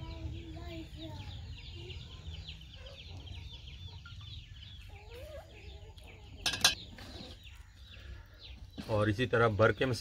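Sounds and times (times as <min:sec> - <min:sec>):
chickens clucking: 0:00.0 - 0:09.2
chicks cheeping: 0:00.0 - 0:10.0.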